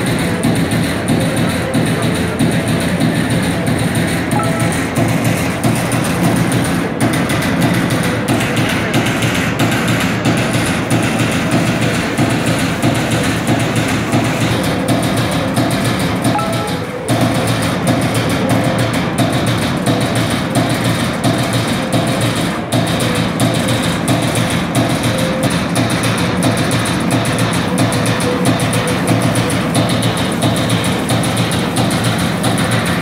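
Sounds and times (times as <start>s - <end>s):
punch press punching steel sheet: 0.0s - 33.0s.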